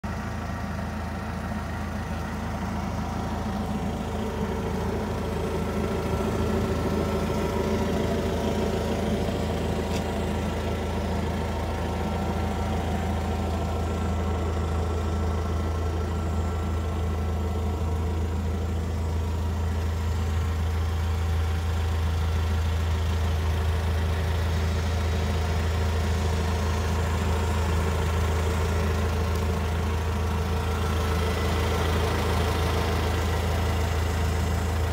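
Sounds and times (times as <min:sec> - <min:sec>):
forklift engine idling: 0:00.0 - 0:34.9.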